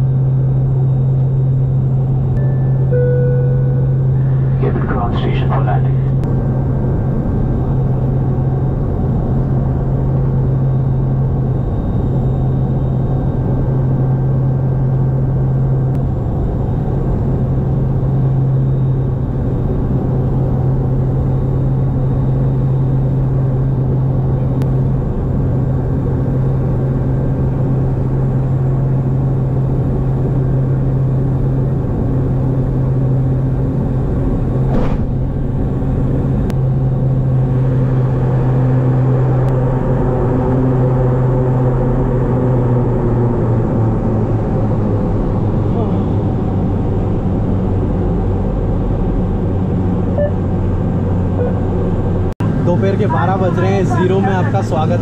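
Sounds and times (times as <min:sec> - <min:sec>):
turboprop engines droning: 0:00.0 - 0:55.0.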